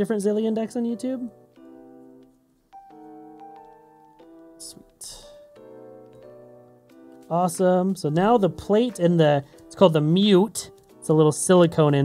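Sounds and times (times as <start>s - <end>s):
soft piano-like chords: 0.6s - 12.0s.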